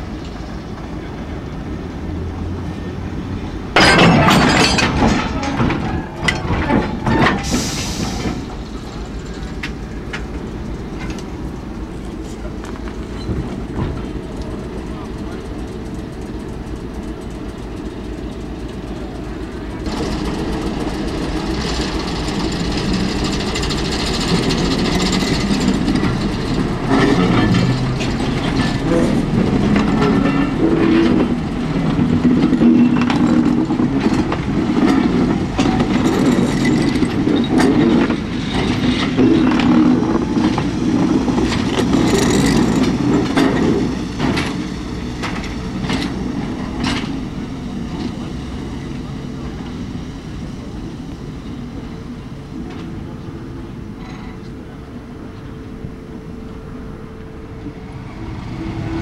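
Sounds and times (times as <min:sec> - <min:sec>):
train wheels rumbling on track: 0:00.0 - 0:59.0
wheels clicking over rail joints: 0:03.5 - 0:56.6.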